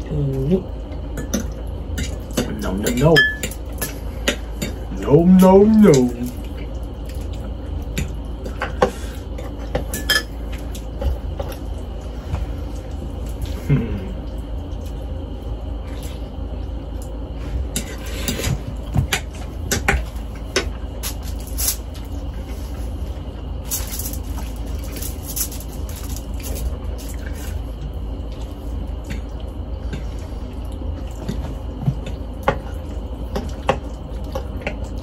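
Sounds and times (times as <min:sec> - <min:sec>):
low hum: 0:00.0 - 0:35.0
chewing with wet mouth sounds: 0:05.8 - 0:35.0.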